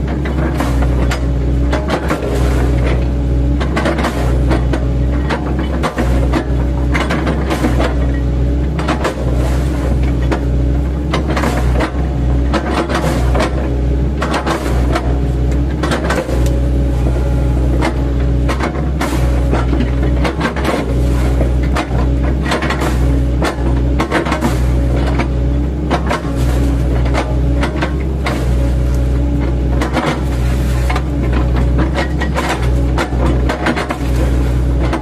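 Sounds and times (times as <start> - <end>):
bucket crunching wood: 0.0 - 35.0
excavator diesel engine running: 0.0 - 35.0.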